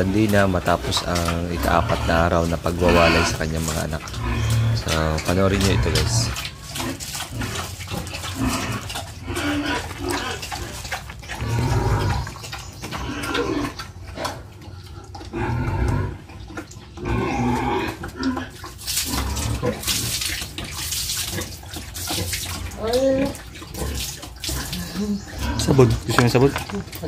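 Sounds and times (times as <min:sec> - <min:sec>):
water splashing: 0:00.0 - 0:15.4, 0:17.8 - 0:27.0
pig grunting: 0:00.0 - 0:27.0.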